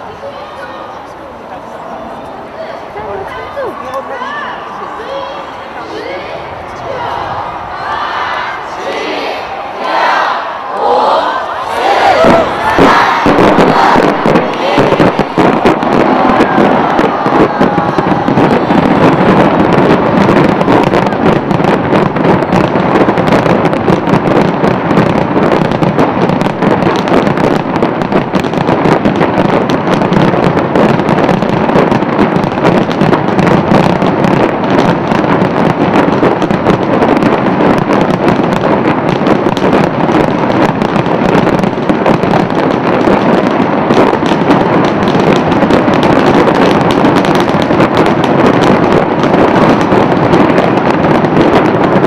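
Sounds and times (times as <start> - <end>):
fireworks bursts and crackling: 0.0 - 52.0.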